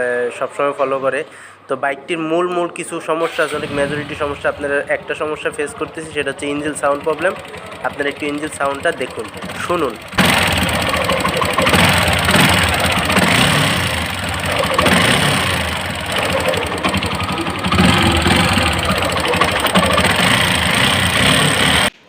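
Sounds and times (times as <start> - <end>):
motorcycle engine running roughly: 3.3 - 21.9.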